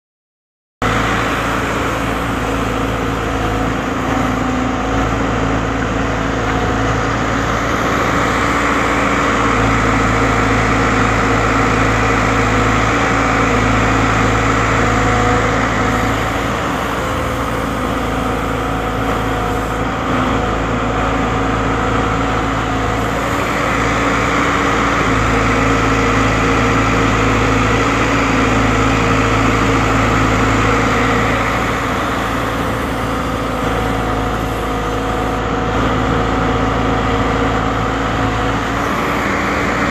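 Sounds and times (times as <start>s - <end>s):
heavy diesel engine running: 0.8s - 39.9s.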